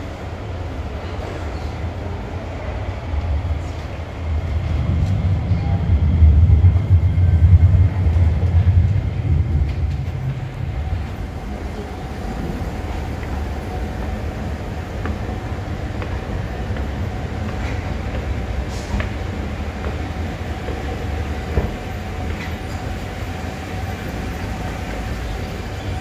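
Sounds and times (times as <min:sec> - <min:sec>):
metro train rumbling: 0:00.0 - 0:26.0.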